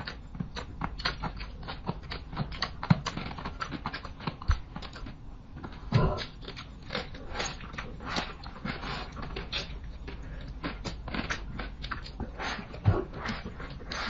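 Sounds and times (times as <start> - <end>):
crunching and smacking of food: 0.0 - 14.0.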